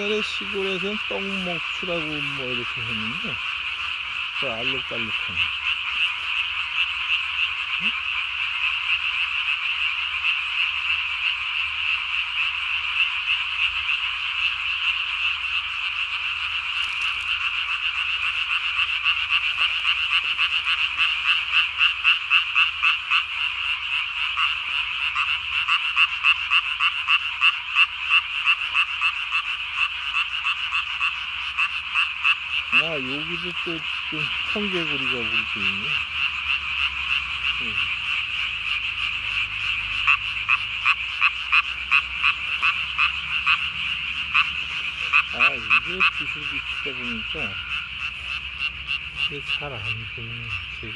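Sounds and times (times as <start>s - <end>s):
tree frogs calling: 0.0s - 50.9s.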